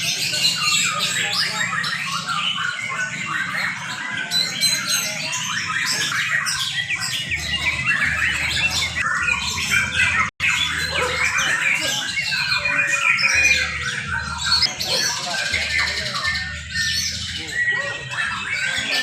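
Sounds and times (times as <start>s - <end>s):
birds singing whistles and trills: 0.0s - 19.0s.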